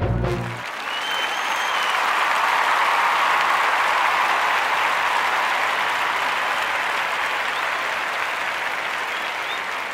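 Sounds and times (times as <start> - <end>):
crowd applauding: 0.1 - 9.9.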